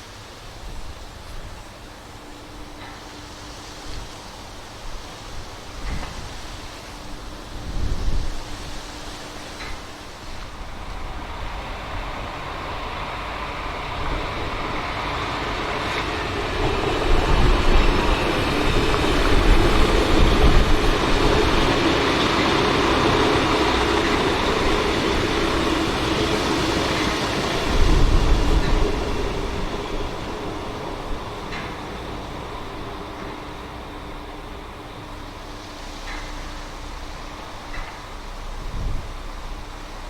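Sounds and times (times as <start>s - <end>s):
train rumbling past: 0.0s - 40.0s.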